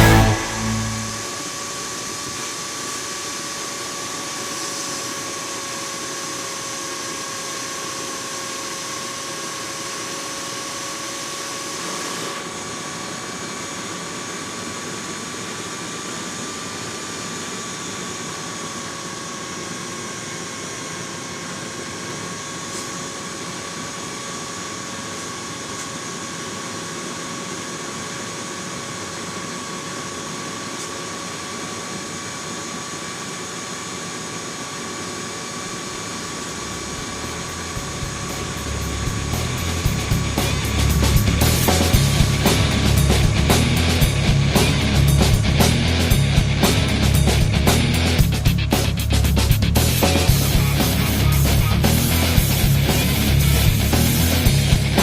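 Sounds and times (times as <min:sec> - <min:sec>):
two-tone mechanical whine: 0:00.0 - 0:47.5.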